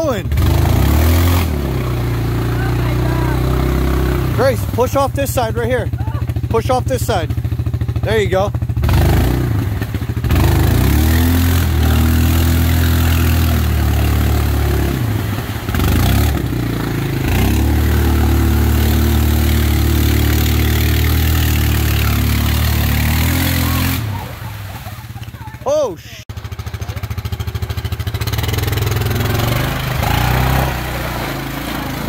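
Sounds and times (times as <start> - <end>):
atv engine revving hard: 0.0 - 32.0
mud and water churning: 0.1 - 8.0, 8.8 - 32.0.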